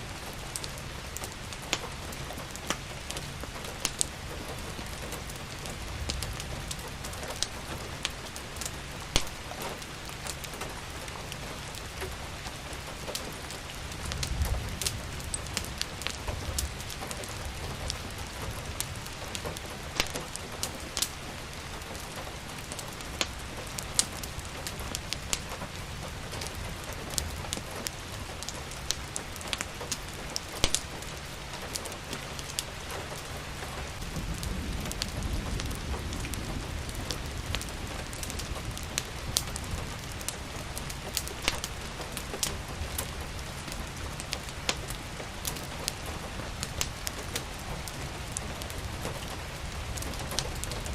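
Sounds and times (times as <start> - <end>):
steady rain: 0.0 - 50.9
wood fire crackling and popping: 0.1 - 50.9.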